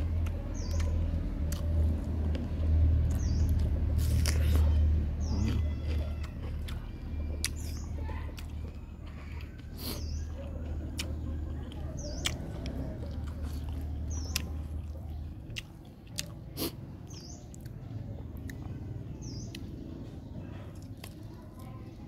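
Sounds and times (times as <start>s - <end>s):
chewing and biting fruit: 0.0s - 22.0s.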